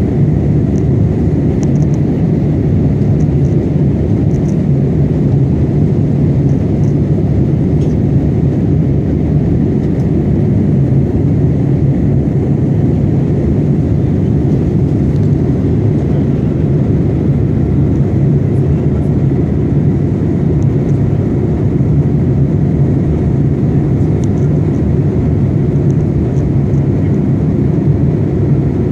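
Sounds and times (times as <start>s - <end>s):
airliner cabin drone: 0.0s - 28.9s.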